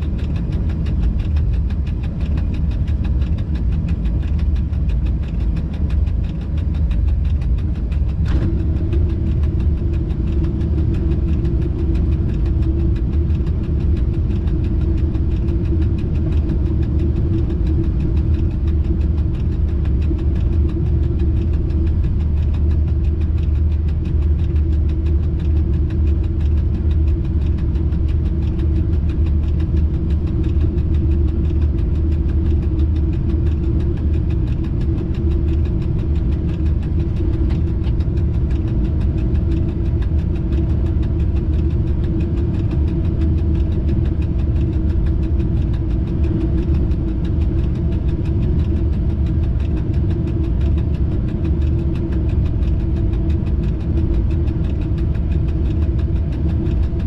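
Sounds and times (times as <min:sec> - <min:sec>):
constant hum: 0:00.0 - 0:57.0.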